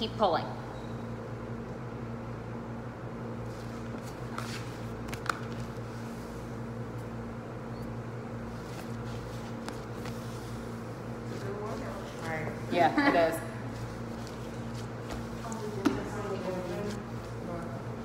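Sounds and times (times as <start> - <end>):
ventilation hum: 0.0 - 18.0.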